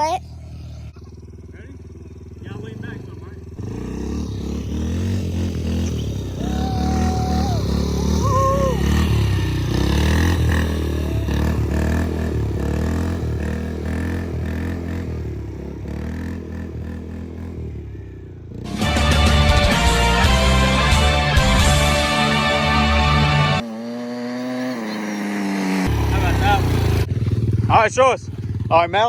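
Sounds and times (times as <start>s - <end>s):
small quad engine running: 0.0s - 29.0s.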